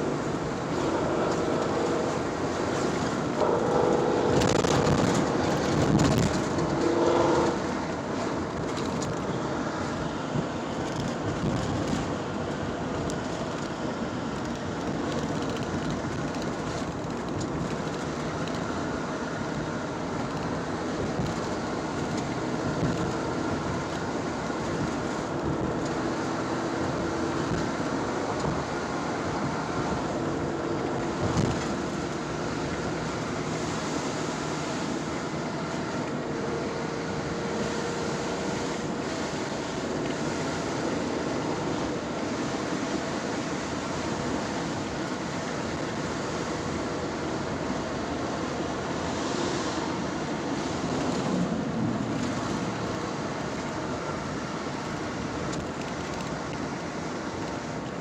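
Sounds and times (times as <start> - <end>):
vehicle running: 0.0 - 58.0.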